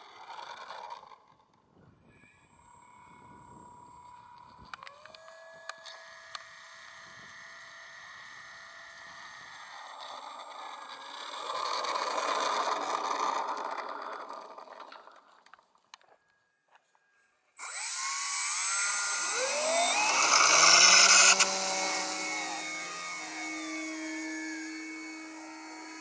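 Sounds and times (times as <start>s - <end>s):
model plane motor whining: 0.0s - 16.1s, 17.6s - 26.0s.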